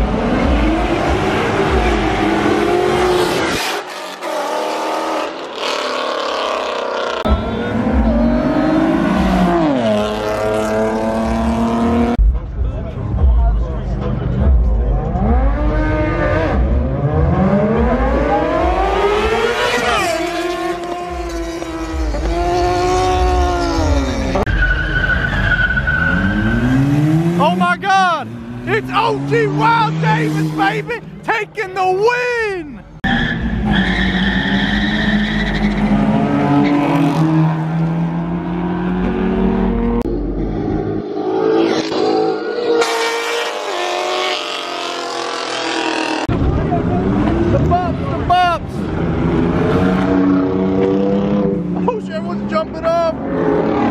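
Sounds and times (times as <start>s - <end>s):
car engines revving: 0.0s - 32.2s, 32.8s - 53.9s.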